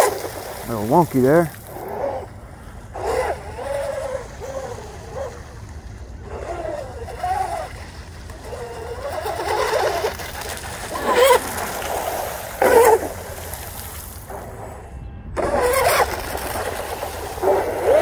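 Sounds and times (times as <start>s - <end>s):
electric boat motors whining: 0.0s - 18.0s.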